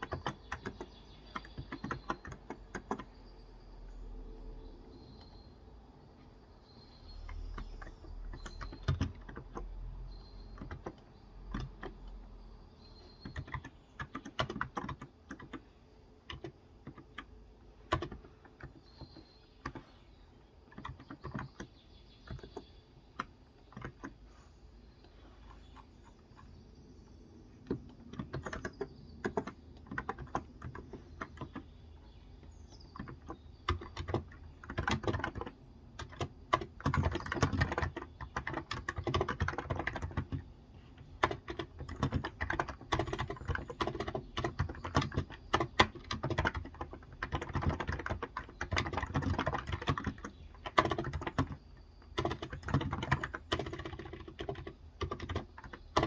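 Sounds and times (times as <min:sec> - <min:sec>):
keyboard typing: 0:00.0 - 0:04.2, 0:06.2 - 0:56.0.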